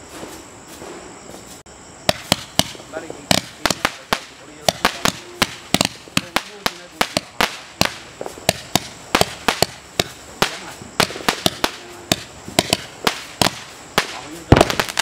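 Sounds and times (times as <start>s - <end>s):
fireworks cake firing sharp bangs: 2.0s - 15.0s.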